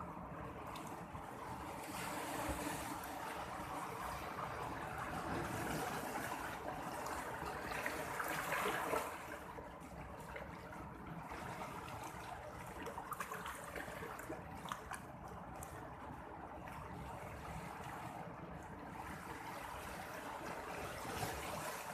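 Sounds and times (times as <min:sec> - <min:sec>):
sea water lapping: 0:00.0 - 0:21.9
small water splashes: 0:00.0 - 0:21.9.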